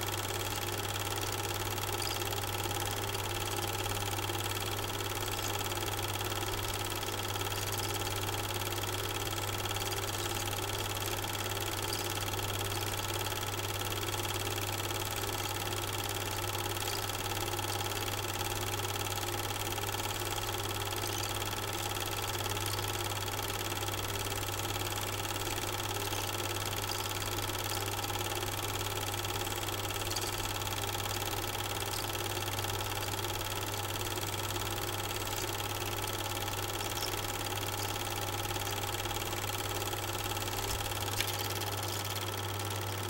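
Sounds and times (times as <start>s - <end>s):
film projector whirring: 0.0s - 43.0s.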